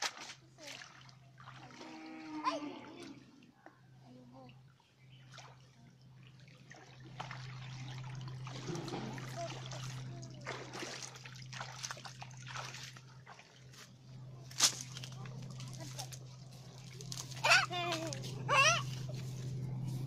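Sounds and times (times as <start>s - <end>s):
water splashing around wading legs: 0.0s - 3.4s, 5.1s - 20.0s.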